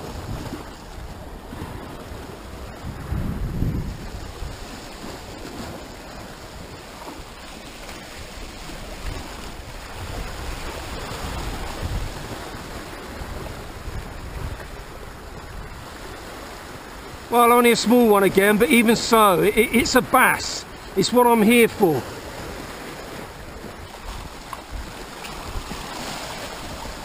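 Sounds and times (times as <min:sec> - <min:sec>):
wind buffeting microphone: 0:00.0 - 0:21.0, 0:21.9 - 0:27.0
surf washing against rocks: 0:00.0 - 0:27.0.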